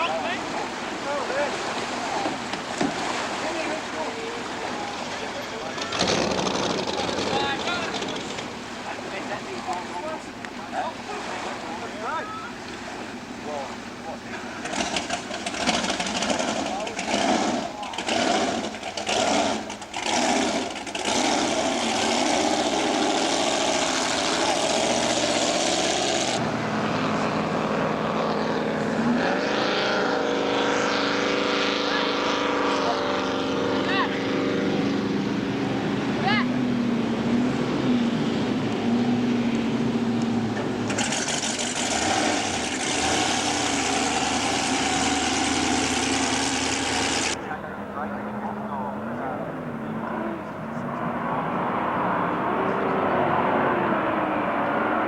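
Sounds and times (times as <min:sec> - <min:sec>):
broad rushing noise: 0:00.0 - 0:55.0
powerboat engine droning: 0:00.0 - 0:55.0.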